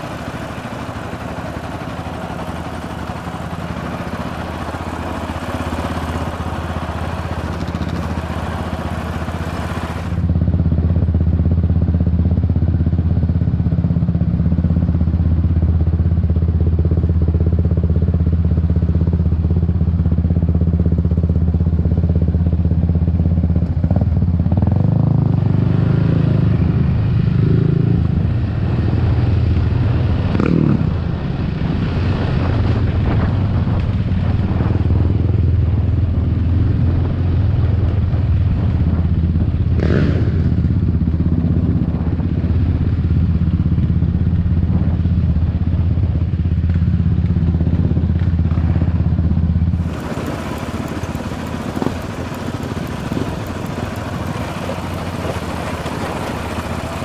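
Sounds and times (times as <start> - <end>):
louder steady engine: 0.0 - 57.0
quad engine on dirt trail: 0.0 - 57.0.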